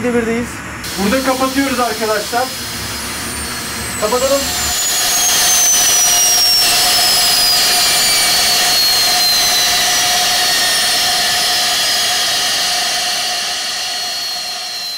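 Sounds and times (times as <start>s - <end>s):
rushing exhaust noise: 0.7s - 14.9s
turbine whine falling in pitch: 0.7s - 14.9s.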